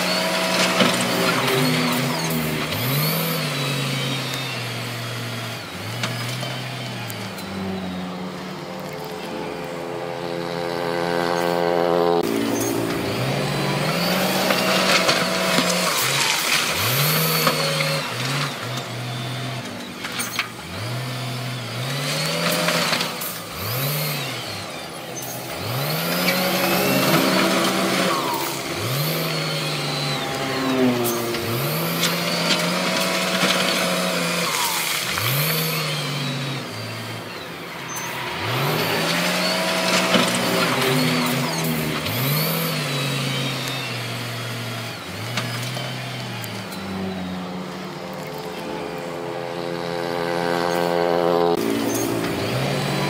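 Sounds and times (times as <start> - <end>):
diesel earthmover engine revving: 0.0 - 53.0.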